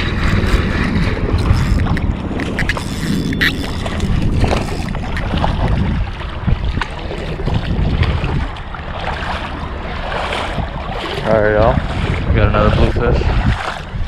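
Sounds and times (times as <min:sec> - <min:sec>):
water lapping and splashing: 0:00.0 - 0:14.0
wind buffeting microphone: 0:00.0 - 0:14.0.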